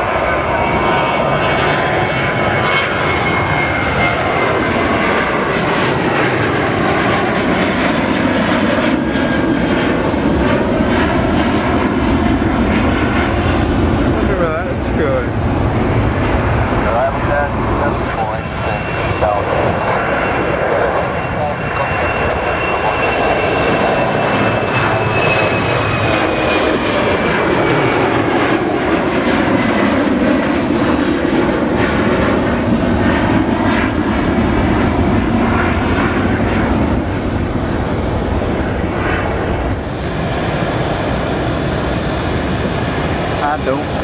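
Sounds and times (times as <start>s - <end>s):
jet engine noise: 0.0s - 44.0s.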